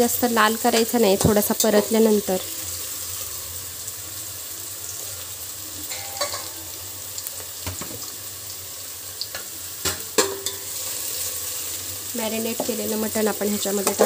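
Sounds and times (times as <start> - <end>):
onion and fat sizzling in oil: 0.0 - 14.0.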